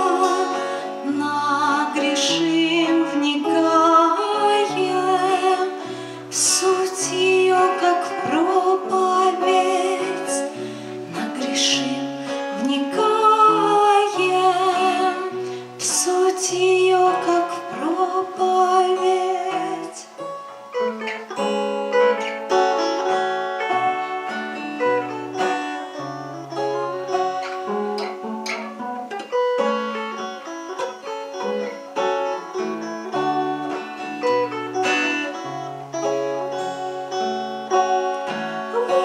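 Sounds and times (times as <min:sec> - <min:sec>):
plucked guitar: 0:00.0 - 0:39.0.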